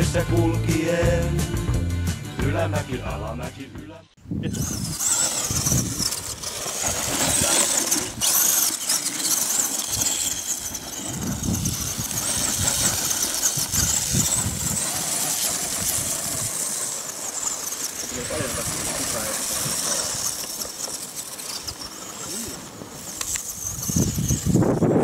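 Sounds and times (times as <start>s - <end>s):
rc car motor whining: 4.4s - 25.0s.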